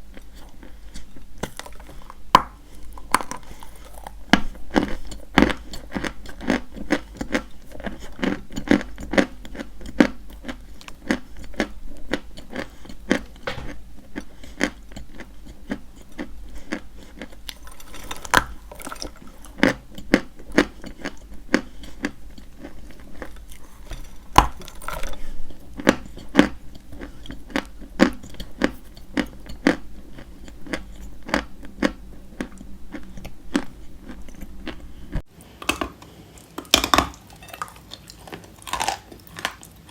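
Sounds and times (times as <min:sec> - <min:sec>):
chewing chalk crunches: 0:00.0 - 0:35.2, 0:37.6 - 0:39.8.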